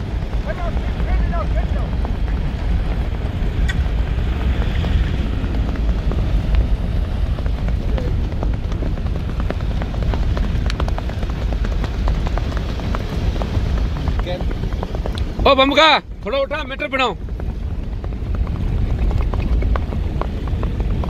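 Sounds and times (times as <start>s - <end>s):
horse hooves clicking: 0.0s - 21.0s
moving vehicle rumble: 0.0s - 21.0s
wind rumble: 0.0s - 21.0s.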